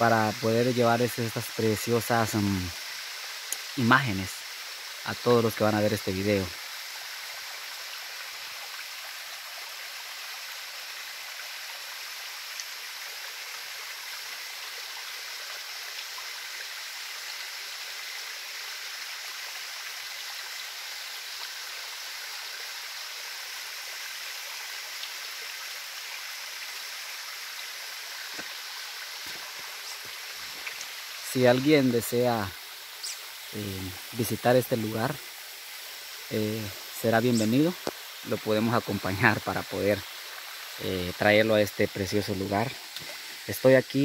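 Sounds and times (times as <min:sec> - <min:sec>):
waterfall splashing over rocks: 0:00.0 - 0:44.0.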